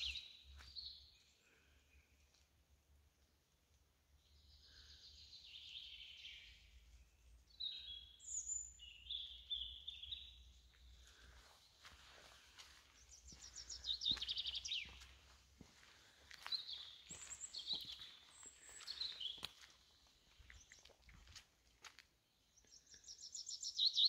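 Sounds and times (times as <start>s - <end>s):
songbirds singing: 0.0s - 2.5s, 4.1s - 21.5s, 22.1s - 24.0s.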